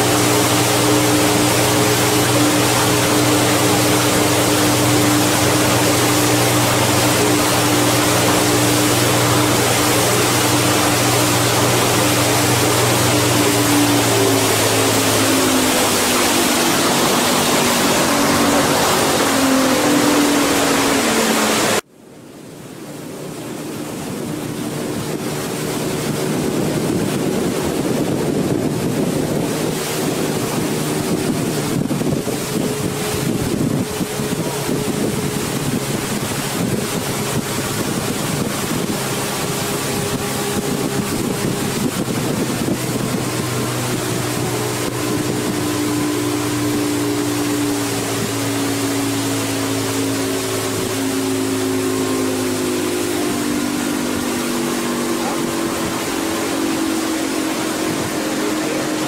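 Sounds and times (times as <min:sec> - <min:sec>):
wind on microphone: 0:00.0 - 0:21.8, 0:22.6 - 0:59.0
boat engine running: 0:00.0 - 0:59.0
water along hull: 0:00.0 - 0:59.0.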